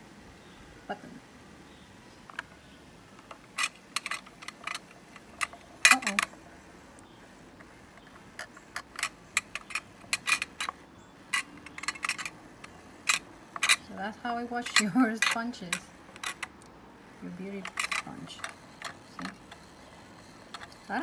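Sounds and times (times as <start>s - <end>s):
sharp plastic clicks and rattles: 2.3s - 21.0s
toy washing machine running: 3.2s - 21.0s.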